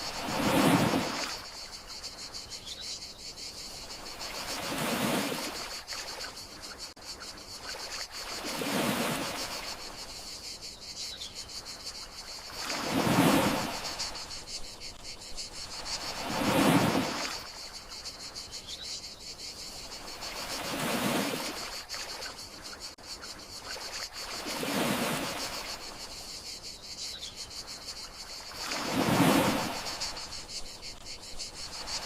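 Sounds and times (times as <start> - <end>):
crickets trilling: 0.0 - 32.0
gentle sea waves: 0.0 - 32.0.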